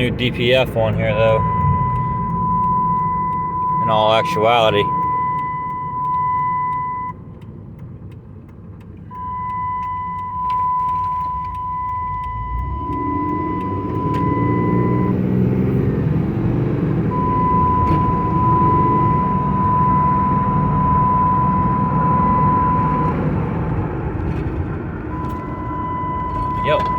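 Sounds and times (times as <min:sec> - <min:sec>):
diesel truck engine driving: 0:00.0 - 0:26.9
road rumble: 0:00.0 - 0:26.9.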